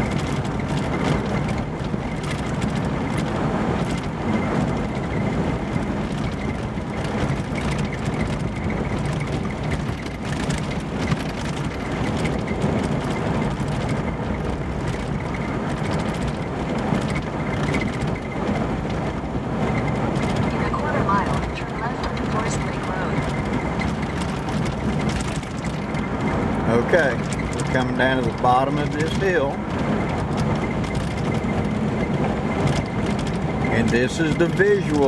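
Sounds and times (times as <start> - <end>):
car driving on dirt road: 0.0 - 35.0.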